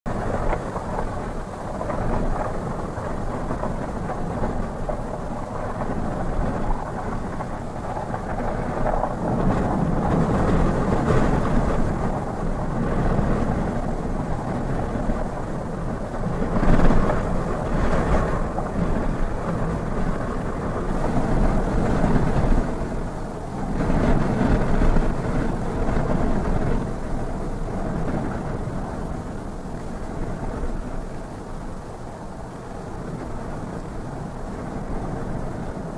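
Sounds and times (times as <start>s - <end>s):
wind buffeting car: 0.0s - 35.9s.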